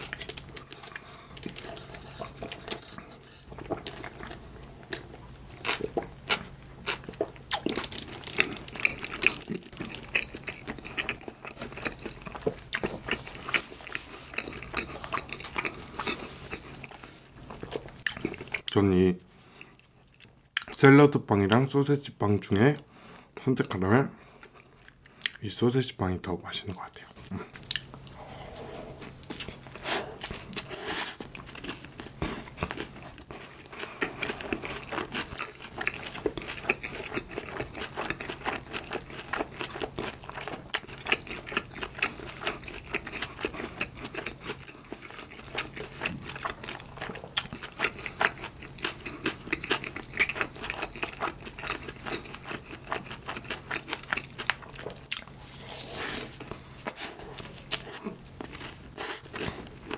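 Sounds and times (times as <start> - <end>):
person chewing bread: 0.0 - 20.8, 24.2 - 25.4, 27.0 - 59.9.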